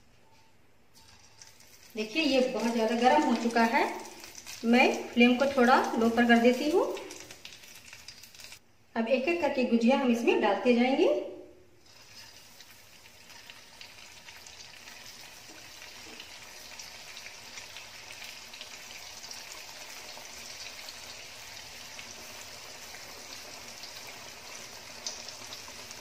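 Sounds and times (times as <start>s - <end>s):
oil sizzling while deep-frying: 1.0s - 8.6s, 11.8s - 26.0s.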